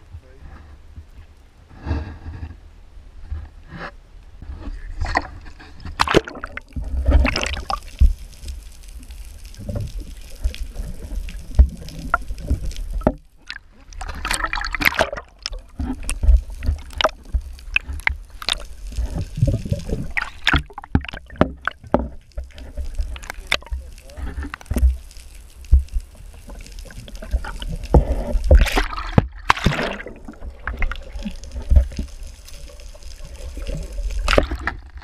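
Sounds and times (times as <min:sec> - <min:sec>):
water sloshing and gurgling: 0:03.3 - 0:35.0.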